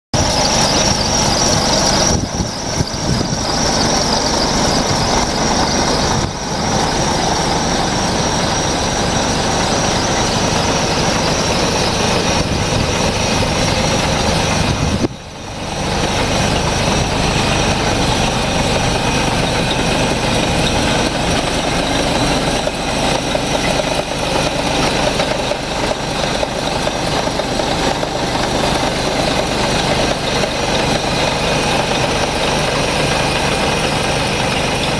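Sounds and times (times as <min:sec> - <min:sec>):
diesel truck engine idling: 0:00.2 - 0:34.9
high whine: 0:00.2 - 0:34.9.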